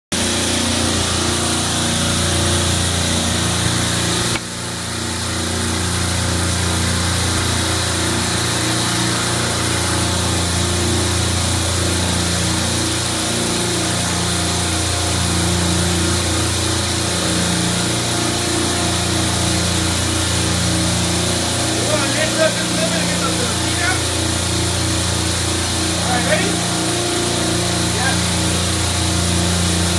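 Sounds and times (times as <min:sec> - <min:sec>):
compressor machine drone: 0:00.1 - 0:29.9.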